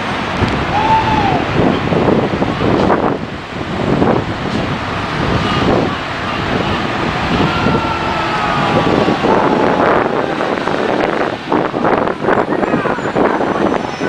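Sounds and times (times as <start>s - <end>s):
bus diesel engine passing: 0.0s - 14.0s
wind buffeting microphone: 0.0s - 14.0s.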